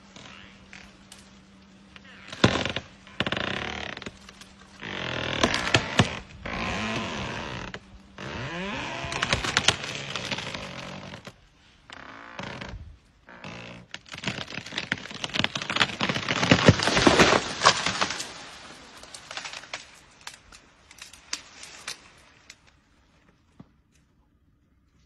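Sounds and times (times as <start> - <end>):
wood splintering and branches snapping: 0.0 - 11.4, 13.4 - 22.8
tree trunk creaking and cracking: 0.0 - 23.4.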